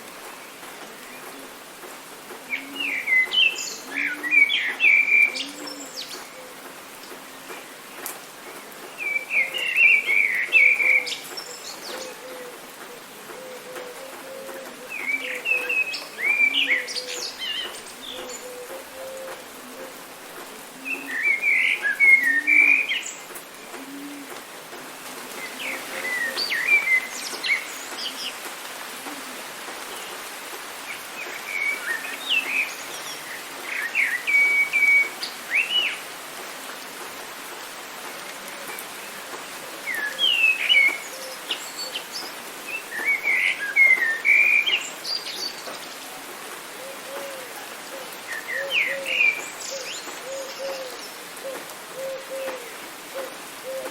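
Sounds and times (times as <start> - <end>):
running water: 0.0 - 51.9
rain hiss: 0.0 - 53.9
songbirds chirping: 0.0 - 53.9.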